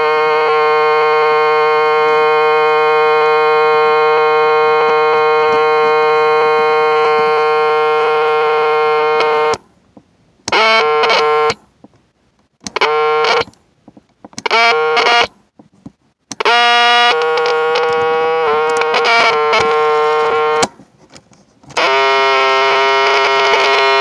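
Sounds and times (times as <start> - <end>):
cassette recorder buzzing tone: 0.0 - 9.6, 10.5 - 11.6, 12.6 - 13.6, 14.4 - 15.4, 16.3 - 20.8, 21.7 - 24.0.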